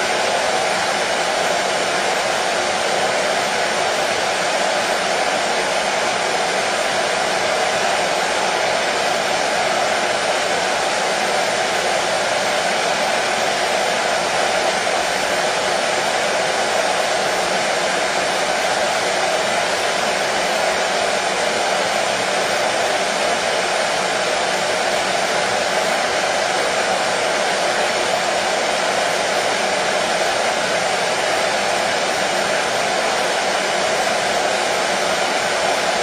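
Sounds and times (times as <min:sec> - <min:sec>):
hair dryer running: 0:00.0 - 0:36.0.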